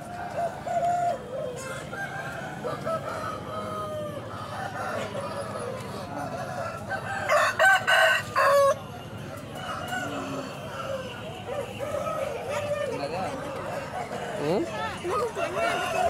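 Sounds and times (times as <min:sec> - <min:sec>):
roosters crowing and clucking: 0:00.0 - 0:16.0.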